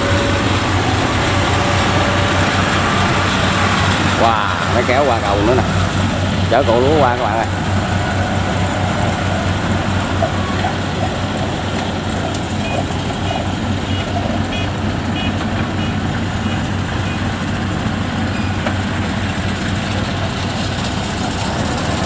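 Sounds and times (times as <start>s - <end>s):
tracked carrier engine droning: 0.0s - 22.0s.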